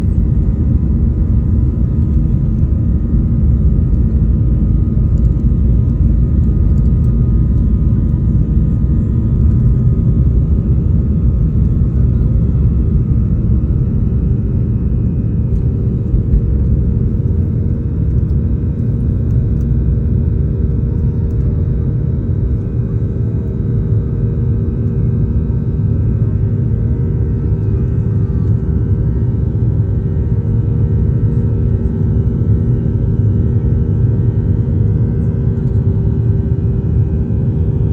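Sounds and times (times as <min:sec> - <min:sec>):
jet engines at takeoff power: 0:00.0 - 0:37.9.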